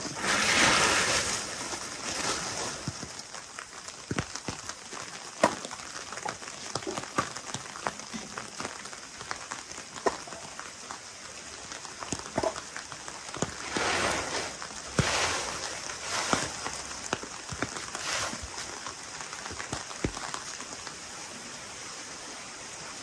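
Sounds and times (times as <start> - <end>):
rain hissing: 0.0 - 23.0.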